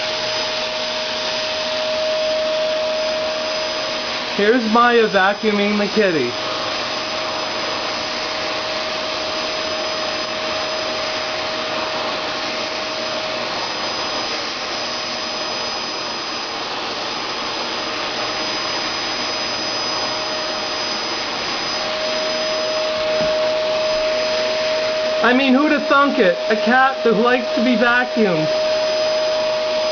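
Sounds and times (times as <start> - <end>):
vacuum cleaner running: 0.0 - 29.9
vacuum whine: 0.0 - 29.9.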